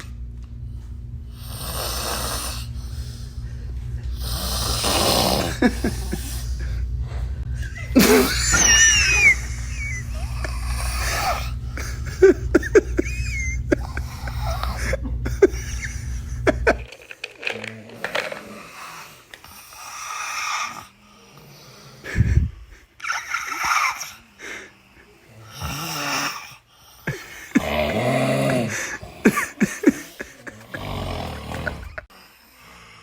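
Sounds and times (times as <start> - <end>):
steady low hum: 0.0 - 33.0
person snoring: 1.3 - 3.5, 4.1 - 6.8, 7.9 - 16.8, 17.5 - 33.0.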